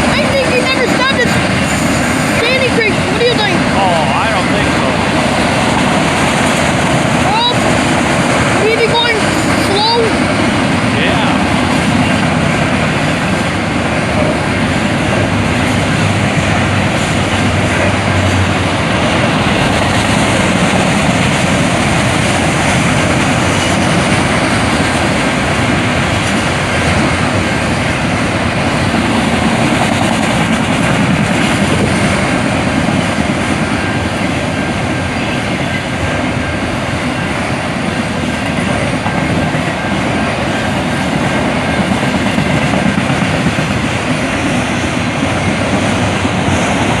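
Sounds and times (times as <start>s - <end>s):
freight train wheels rolling on rails: 0.0s - 47.0s.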